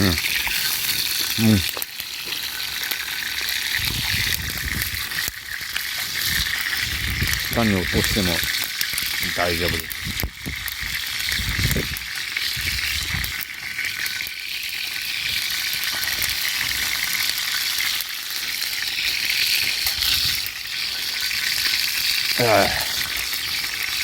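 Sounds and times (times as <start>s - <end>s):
crackling sizzle of frying: 0.0s - 24.0s.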